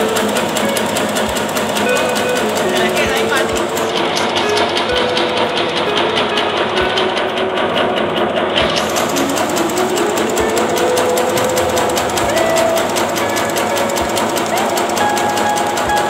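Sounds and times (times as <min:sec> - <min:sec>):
machine mechanical clatter: 0:00.0 - 0:16.0
motor whine: 0:00.0 - 0:16.0.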